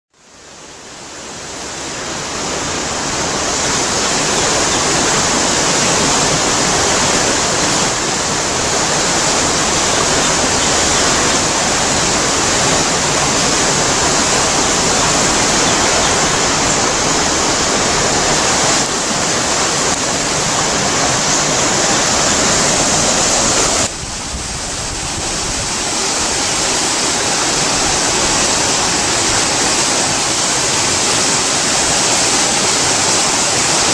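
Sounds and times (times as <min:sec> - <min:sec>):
rushing water churning: 0:00.2 - 0:33.9.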